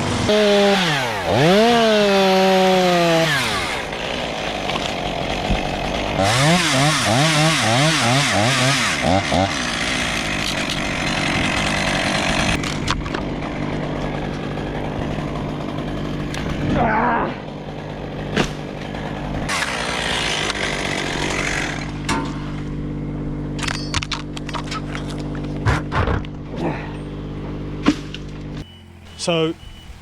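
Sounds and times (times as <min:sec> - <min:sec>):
chainsaw cutting: 0:00.0 - 0:29.5
engine running: 0:00.0 - 0:30.0.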